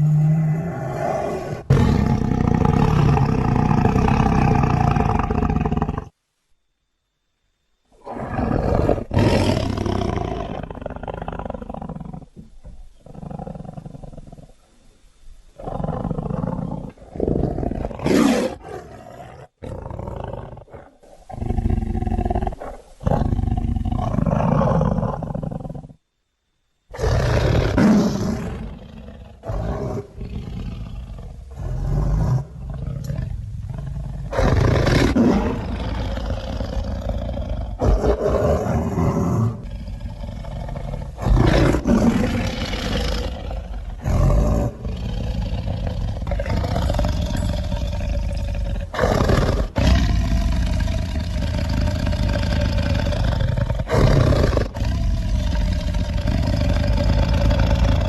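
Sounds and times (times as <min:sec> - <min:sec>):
snarling growls: 0:00.0 - 0:06.1, 0:08.0 - 0:12.3, 0:15.6 - 0:25.9, 0:26.9 - 0:58.0
big cat roars: 0:00.0 - 0:06.2, 0:08.0 - 0:14.5, 0:15.6 - 0:26.0, 0:26.9 - 0:58.0.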